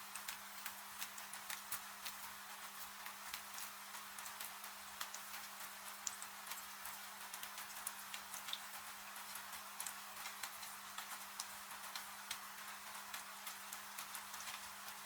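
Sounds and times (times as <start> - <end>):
wood fire crackling and popping: 0.0 - 12.4
rain hissing: 0.0 - 15.0.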